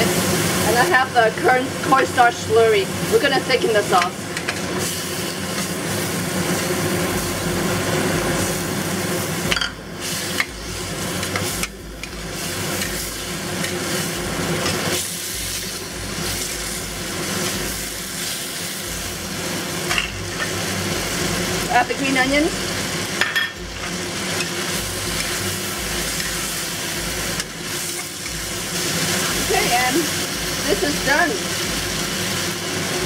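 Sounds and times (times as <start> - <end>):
stir-fry sizzling in a pan: 0.0 - 33.0.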